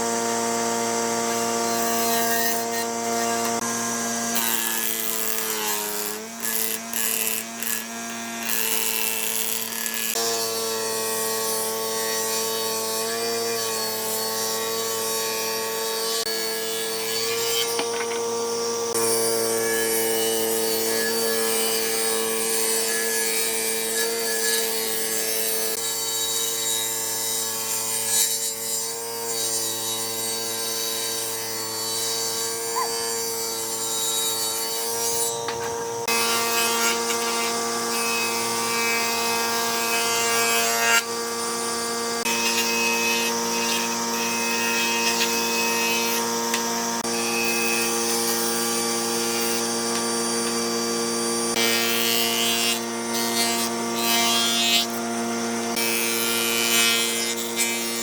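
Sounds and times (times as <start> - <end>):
electric woodworking tool humming: 0.0 - 58.0
rasping of wood cutting: 0.0 - 58.0.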